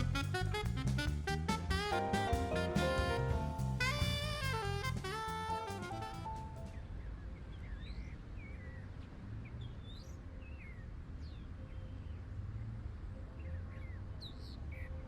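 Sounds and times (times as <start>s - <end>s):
birds chirping: 0.0s - 12.8s, 13.4s - 15.0s.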